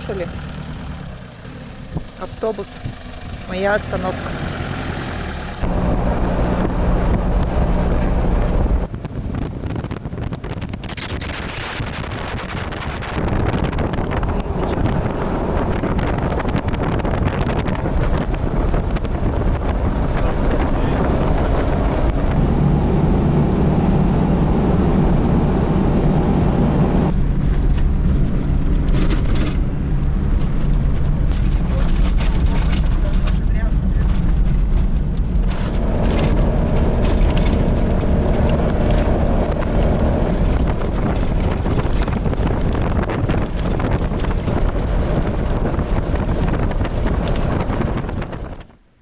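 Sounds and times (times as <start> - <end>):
vehicle engine: 0.0 - 48.8
road noise: 0.0 - 49.0
wind on microphone: 5.6 - 48.9.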